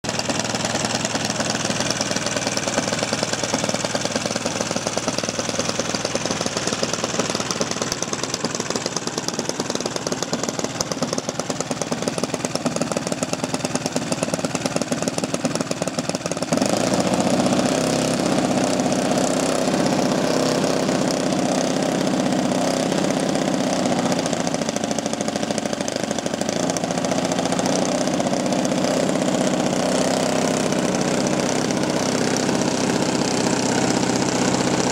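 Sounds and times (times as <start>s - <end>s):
model aircraft petrol engine running: 0.0s - 34.9s.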